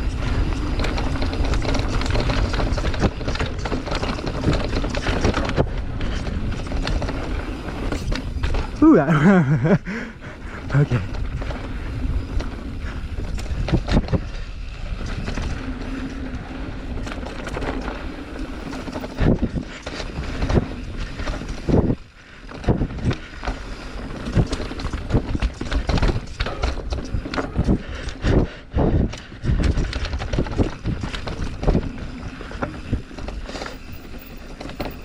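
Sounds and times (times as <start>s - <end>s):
wind noise on microphone: 0.0s - 8.9s, 9.5s - 35.0s
bike knocking and rattling: 0.0s - 35.0s
bike tyre rumble: 0.0s - 35.0s.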